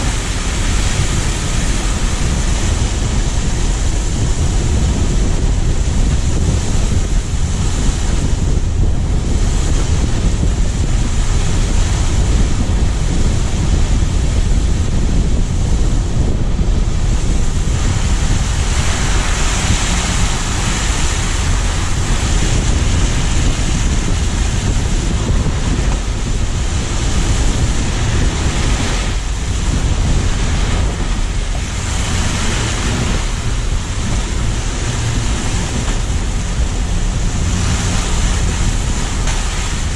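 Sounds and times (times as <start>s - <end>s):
road and tyre noise: 0.0s - 39.9s
wind rushing over microphone: 0.0s - 39.9s.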